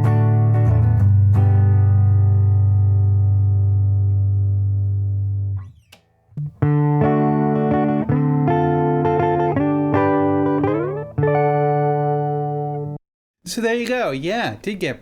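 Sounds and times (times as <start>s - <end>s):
electric guitar chords: 0.0s - 5.8s, 6.4s - 13.0s.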